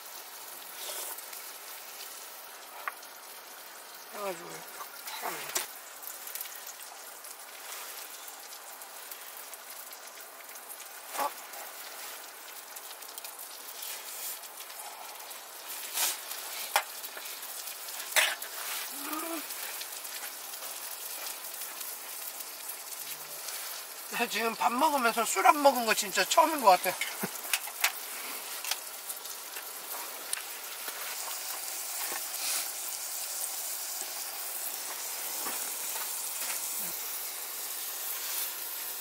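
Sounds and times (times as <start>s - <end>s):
meat sizzling on grill: 0.0s - 39.0s.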